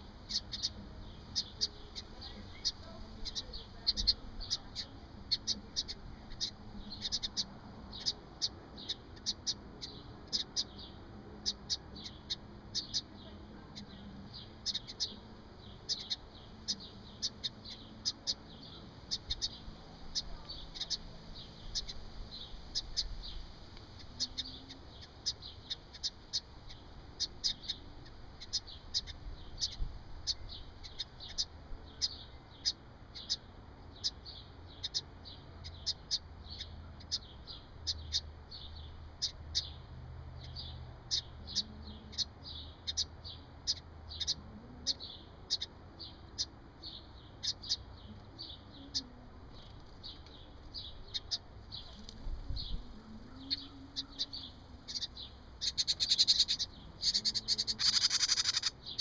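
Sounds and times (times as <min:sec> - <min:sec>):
wren alarm calls: 0:00.0 - 0:39.8, 0:40.4 - 0:59.0.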